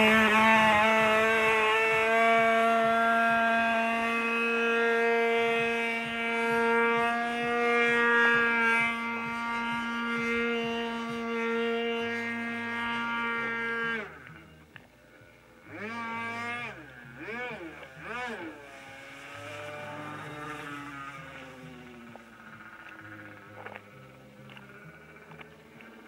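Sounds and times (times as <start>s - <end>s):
model plane engine drone: 0.0s - 26.0s.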